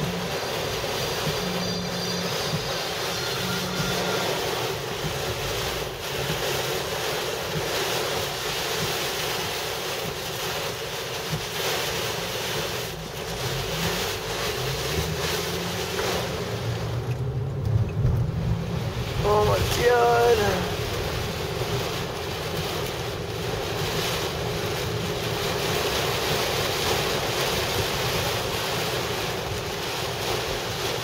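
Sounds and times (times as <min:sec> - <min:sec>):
heavy rain on car roof: 0:00.0 - 0:31.0
wind beating on car: 0:00.0 - 0:31.0.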